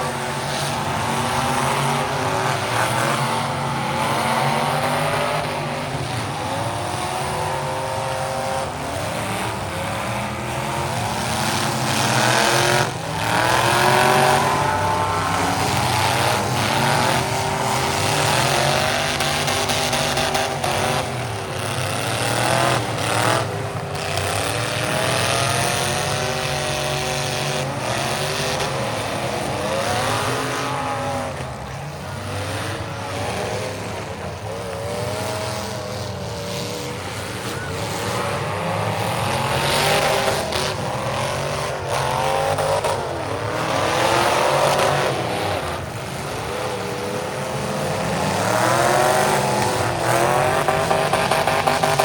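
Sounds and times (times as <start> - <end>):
car engines revving: 0.0 - 52.0.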